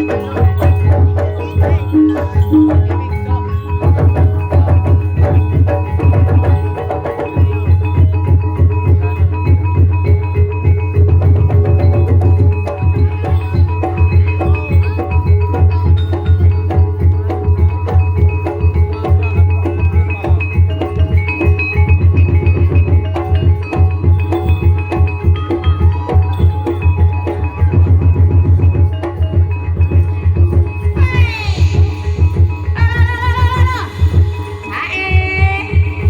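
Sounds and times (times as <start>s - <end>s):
metal-keyed instruments melody: 0.0s - 36.0s.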